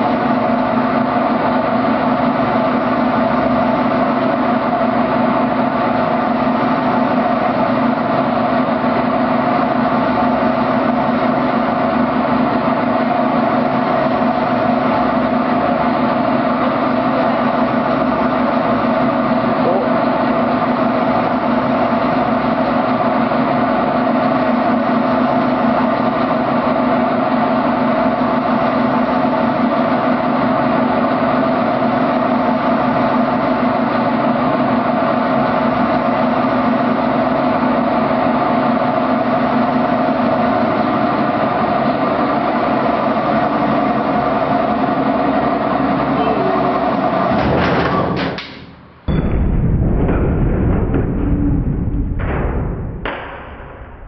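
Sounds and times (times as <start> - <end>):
mechanical hum and rumble: 0.0 - 54.0.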